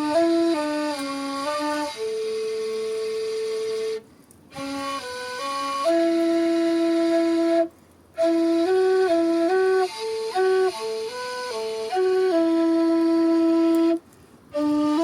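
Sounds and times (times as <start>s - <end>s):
flute playing a melody: 0.0s - 15.0s.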